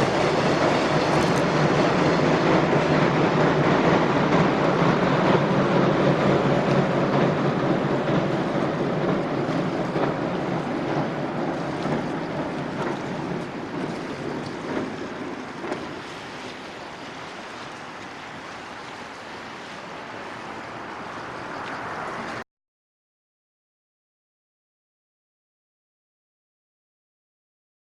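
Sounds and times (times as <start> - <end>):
freight train rumble: 0.0 - 22.4
wind and water hiss: 0.0 - 22.4.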